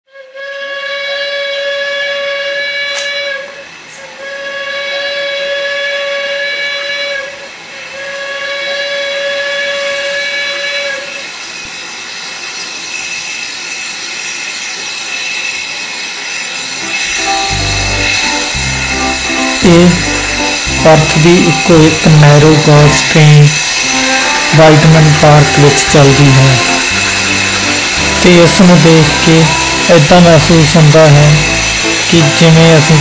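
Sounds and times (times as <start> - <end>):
steam locomotive whistle: 0.1 - 33.0
steam hissing: 0.2 - 33.0.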